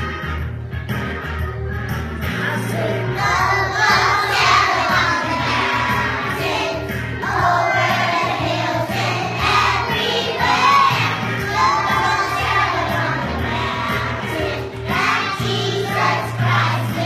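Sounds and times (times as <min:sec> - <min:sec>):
instrumental music accompaniment: 0:00.0 - 0:17.0
children singing together: 0:02.7 - 0:17.0.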